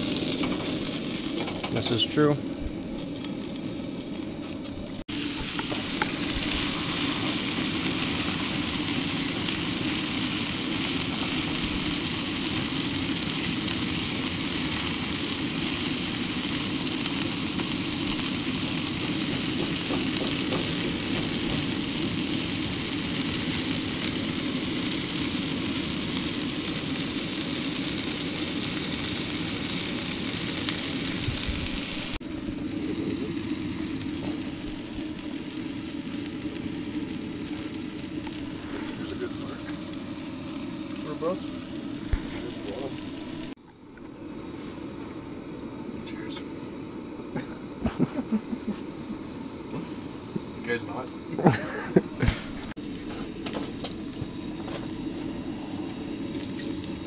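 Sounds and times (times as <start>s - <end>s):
food sizzling on a griddle: 0.0s - 43.6s, 47.4s - 48.5s, 50.9s - 57.0s
constant low hum: 0.0s - 57.0s.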